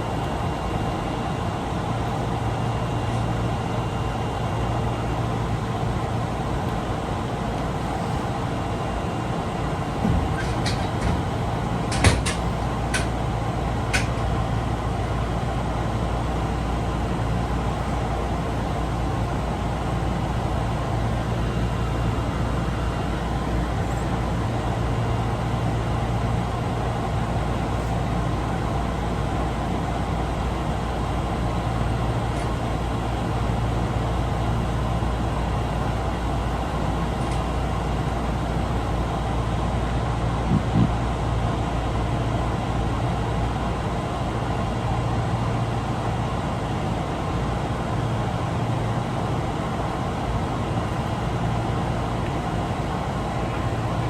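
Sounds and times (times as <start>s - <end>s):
subway wheels rumbling: 0.0s - 54.0s.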